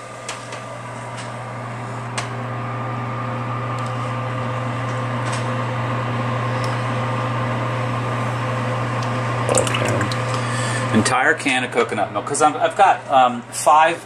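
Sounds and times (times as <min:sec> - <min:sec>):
motor hum with whining tones: 0:00.0 - 0:14.0.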